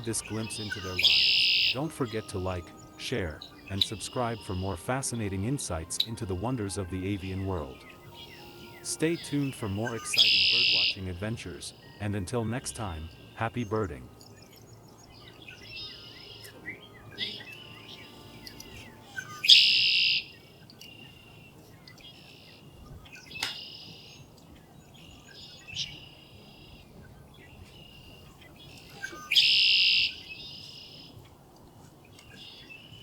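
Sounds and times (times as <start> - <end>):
blackbirds singing buzzy trills: 0.0 - 33.0.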